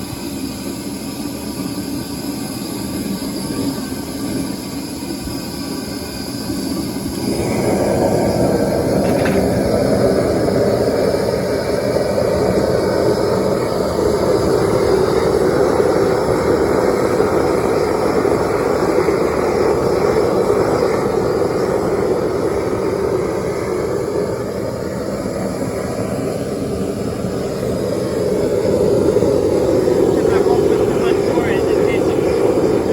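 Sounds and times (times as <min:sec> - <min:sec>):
propane torch whooshing: 0:00.0 - 0:32.9.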